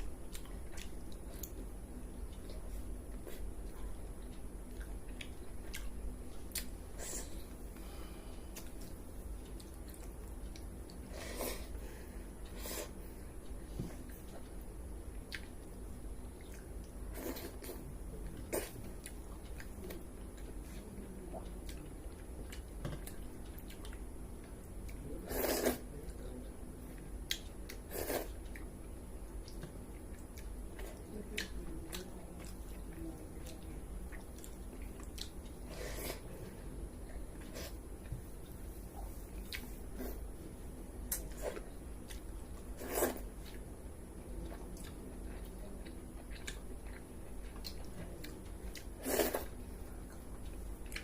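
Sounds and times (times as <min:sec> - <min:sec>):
person chewing and crunching food: 0:00.0 - 0:51.0.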